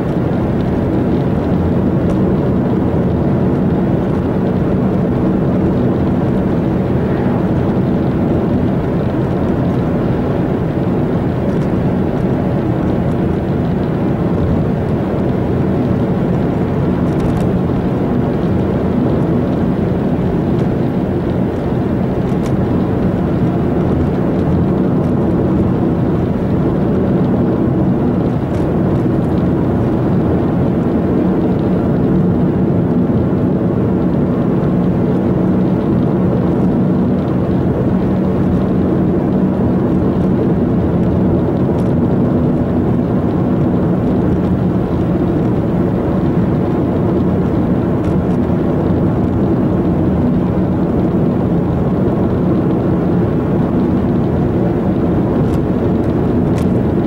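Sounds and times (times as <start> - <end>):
car cabin road noise: 0.0 - 57.0.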